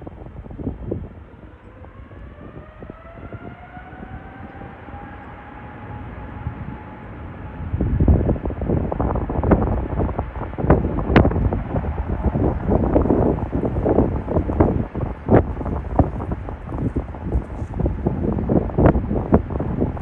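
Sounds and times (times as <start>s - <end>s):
jet engines whining: 0.0s - 20.0s
wind buffeting microphone: 0.0s - 20.0s.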